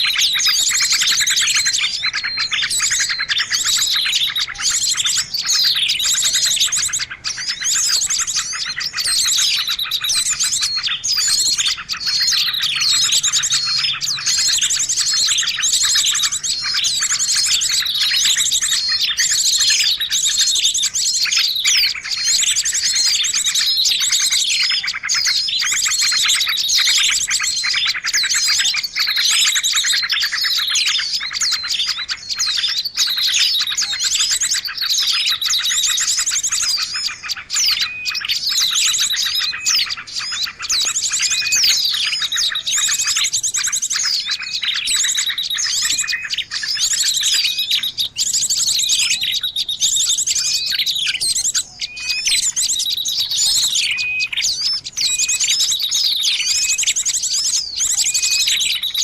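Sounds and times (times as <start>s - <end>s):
songbird trills and chirps: 0.0s - 59.0s.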